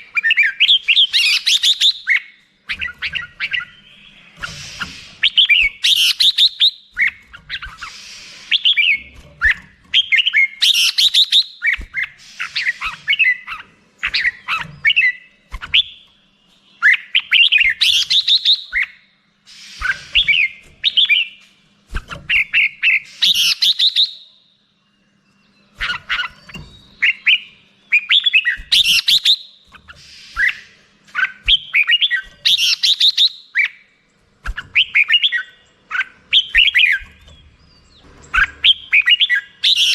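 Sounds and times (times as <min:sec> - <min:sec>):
bulbul chirping song: 0:00.0 - 0:21.6, 0:22.3 - 0:39.9.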